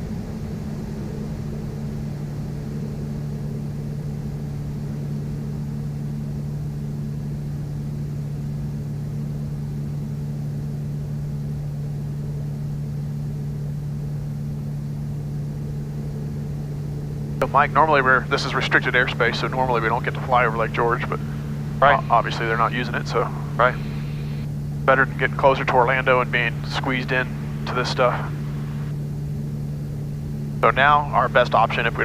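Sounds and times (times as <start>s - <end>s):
aircraft engines droning: 0.0s - 32.0s.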